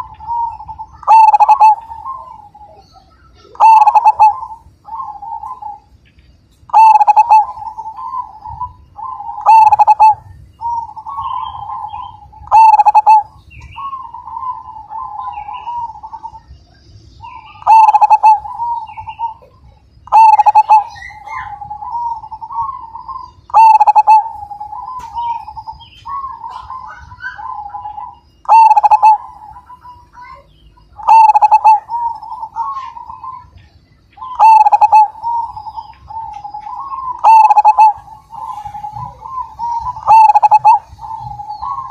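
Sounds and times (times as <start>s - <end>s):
dove cooing: 0.0s - 6.0s, 6.7s - 16.5s, 17.2s - 41.9s.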